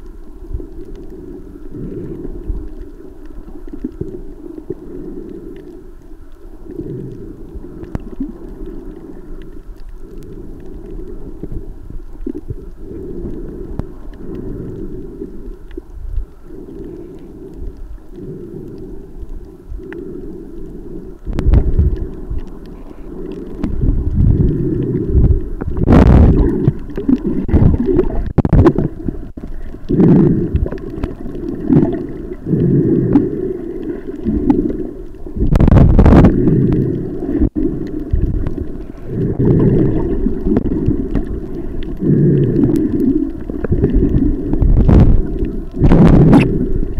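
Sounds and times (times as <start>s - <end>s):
sharp crackles: 0.0s - 46.9s
underwater rumble and gurgling: 0.0s - 46.9s.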